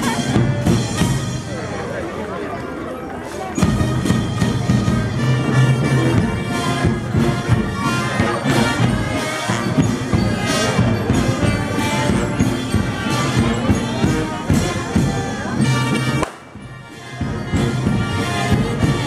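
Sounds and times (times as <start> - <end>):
brass band playing slow march: 0.0 - 2.1, 3.6 - 19.0.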